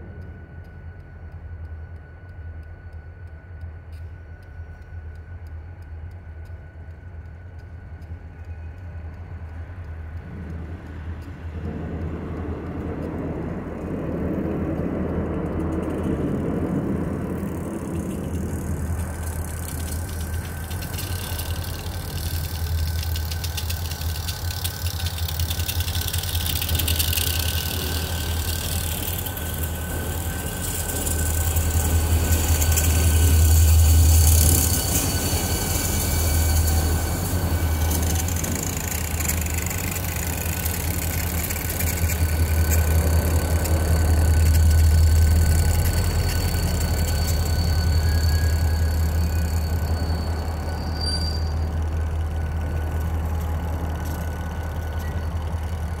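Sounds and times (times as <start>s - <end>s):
diesel locomotive engines droning: 0.0s - 56.0s
wheels hissing on rails: 0.0s - 56.0s.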